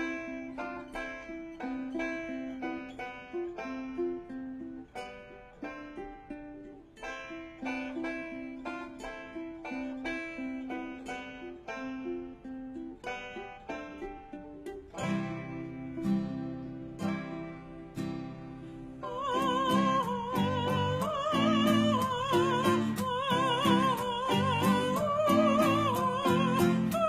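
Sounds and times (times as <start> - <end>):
acoustic bluegrass instrumental: 0.0 - 27.0.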